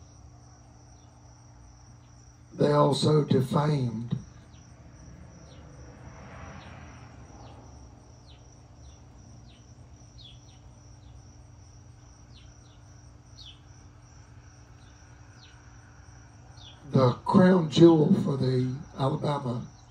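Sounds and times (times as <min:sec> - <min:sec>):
insects trilling: 0:00.0 - 0:19.9
low steady hum: 0:00.0 - 0:19.9.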